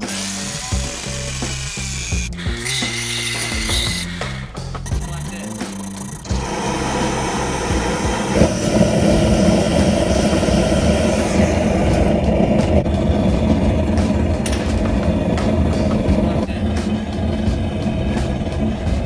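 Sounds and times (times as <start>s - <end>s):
shop equipment roaring: 0.0s - 19.0s.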